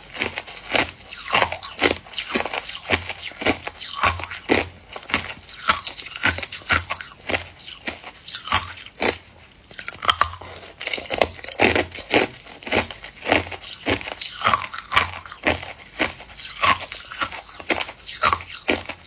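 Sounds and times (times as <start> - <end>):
person crunching ice: 0.0 - 19.0.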